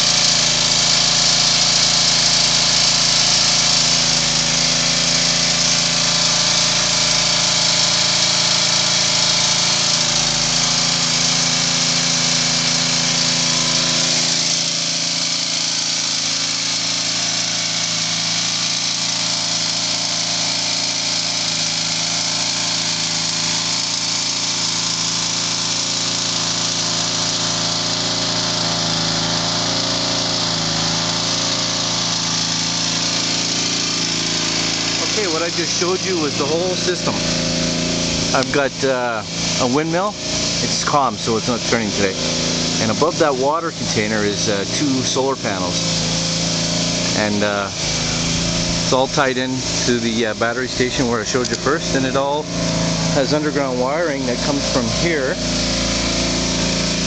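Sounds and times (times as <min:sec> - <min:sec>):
lawnmower engine running: 0:00.0 - 0:57.0.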